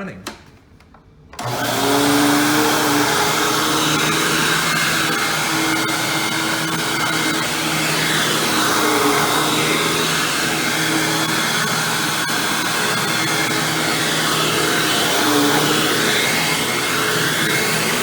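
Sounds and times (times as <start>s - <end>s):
vacuum cleaner running: 1.4s - 18.0s.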